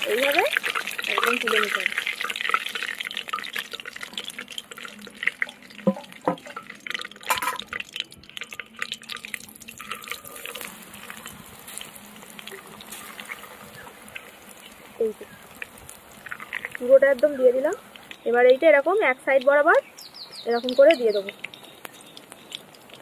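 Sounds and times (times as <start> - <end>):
hot oil sizzling: 0.0 - 23.0.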